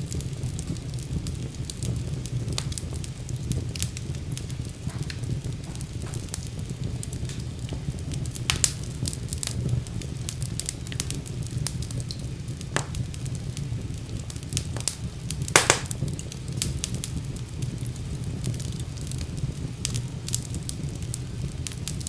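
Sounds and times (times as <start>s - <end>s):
fire crackling: 0.0s - 22.0s
low rumble of flames: 0.0s - 22.0s
sharp pops of fire: 0.0s - 22.0s.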